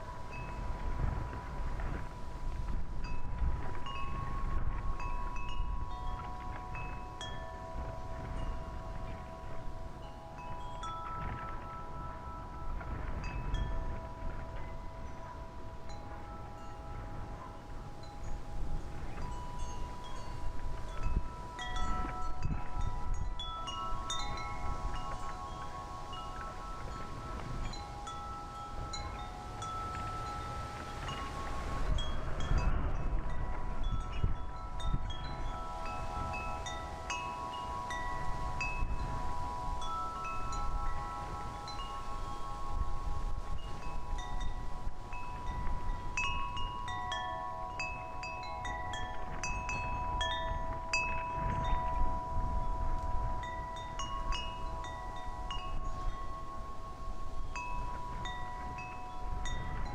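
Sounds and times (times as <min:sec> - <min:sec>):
wind buffeting microphone: 0:00.0 - 0:59.9
wind chimes ringing: 0:00.0 - 0:59.9.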